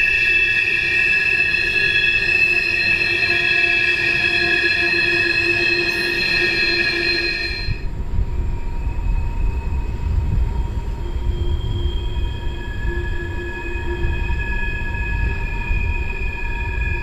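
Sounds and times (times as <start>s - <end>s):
train wheels squealing: 0.0s - 17.0s.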